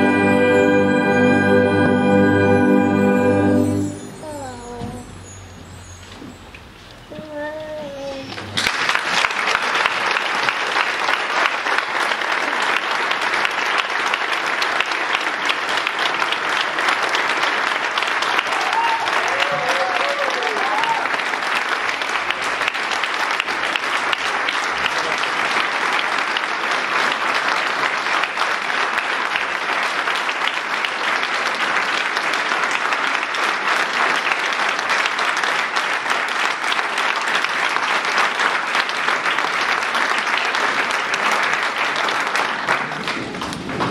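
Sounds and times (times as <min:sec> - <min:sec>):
audience applauding: 0:08.1 - 0:43.9.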